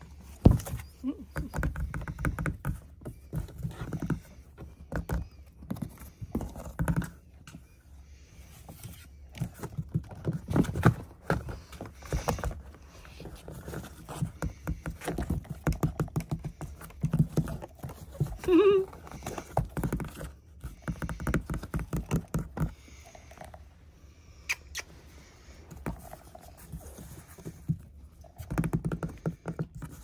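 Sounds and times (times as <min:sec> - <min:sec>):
paws tapping on cardboard box: 0:00.0 - 0:07.8, 0:08.6 - 0:23.5, 0:25.7 - 0:30.0.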